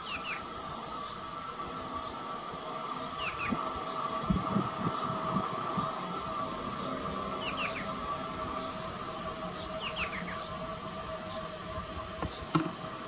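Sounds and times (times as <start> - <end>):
songbird chirping: 0.0 - 13.0
steady low hum: 0.0 - 13.0.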